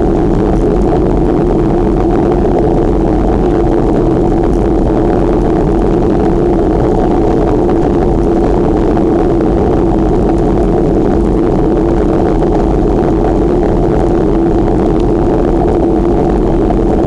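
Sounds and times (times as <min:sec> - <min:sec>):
bicycle rolling noise: 0:00.0 - 0:17.0
wind buffeting microphone: 0:00.0 - 0:17.0.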